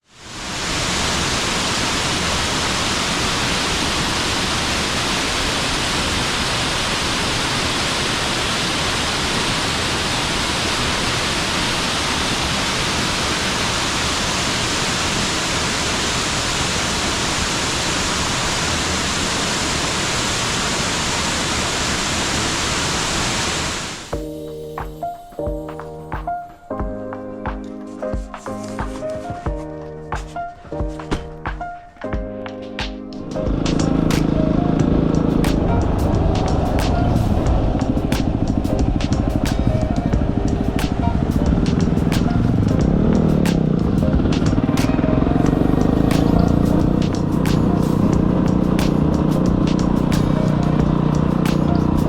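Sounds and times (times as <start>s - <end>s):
waterfall rushing: 0.1s - 24.1s, 33.3s - 51.1s.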